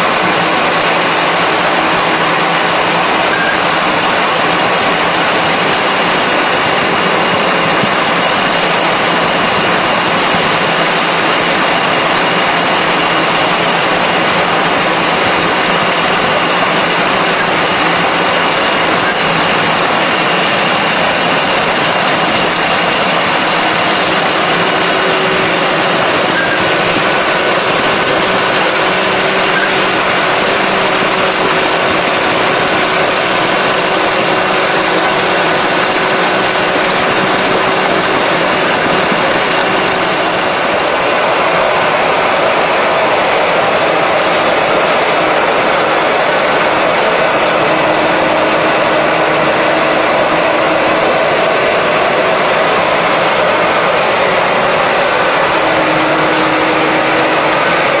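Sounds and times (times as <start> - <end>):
vehicle engine running loudly: 0.0 - 58.0.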